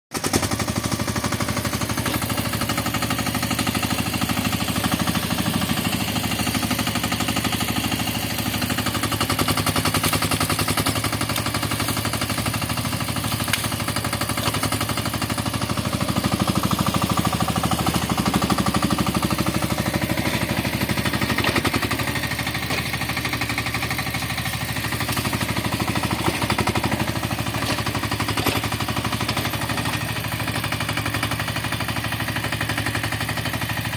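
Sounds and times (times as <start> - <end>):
small excavator engine running: 0.1 - 33.9.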